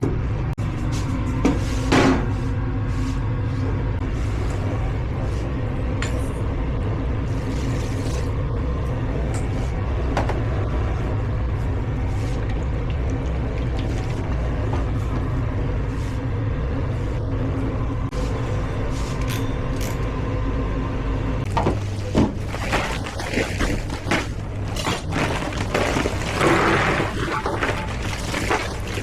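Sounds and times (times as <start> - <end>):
kitchen equipment rumbling: 0.9 - 18.2, 21.4 - 29.0.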